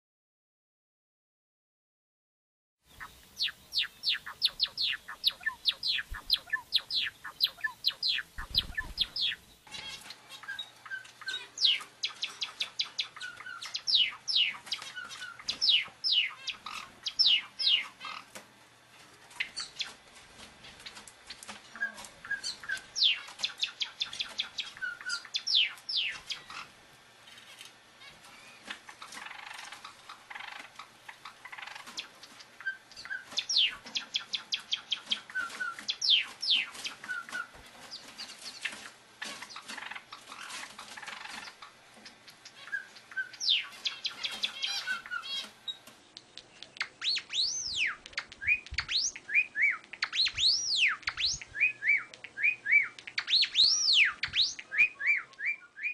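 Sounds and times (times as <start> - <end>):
birds chirping and singing: 2.9 - 18.4, 19.2 - 55.9.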